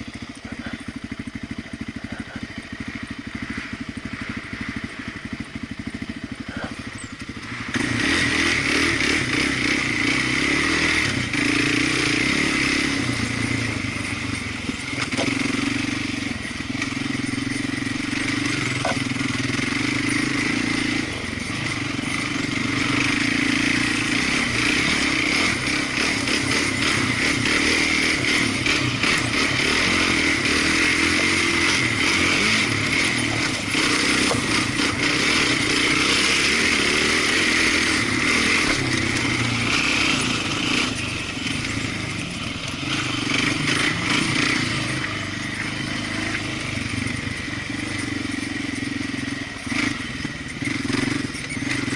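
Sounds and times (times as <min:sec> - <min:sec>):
off-road vehicle engine revving: 0:00.0 - 0:51.9.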